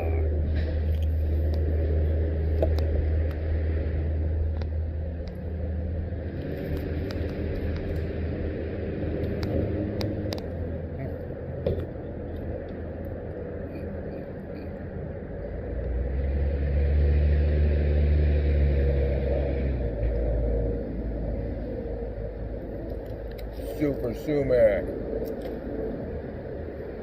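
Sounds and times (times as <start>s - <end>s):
low engine drone: 0.0s - 27.0s.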